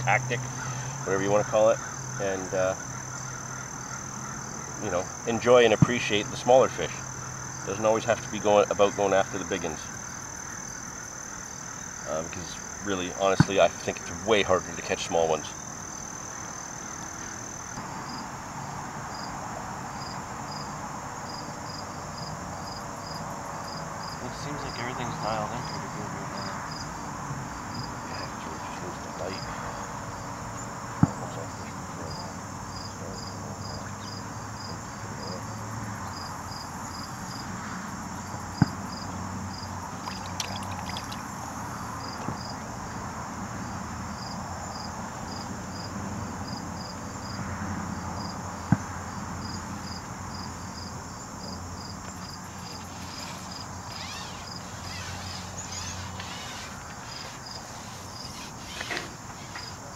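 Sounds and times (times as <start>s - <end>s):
crickets chirping: 0.0s - 59.9s
low outdoor murmur: 0.0s - 59.9s.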